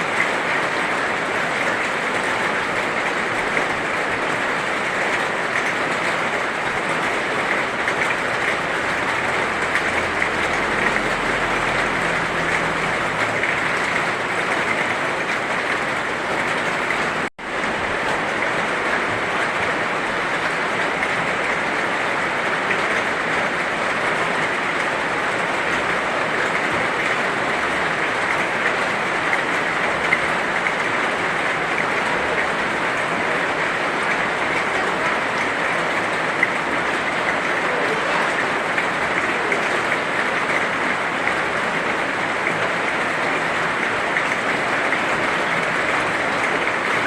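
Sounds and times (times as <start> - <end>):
heavy rain hissing: 0.0 - 47.0.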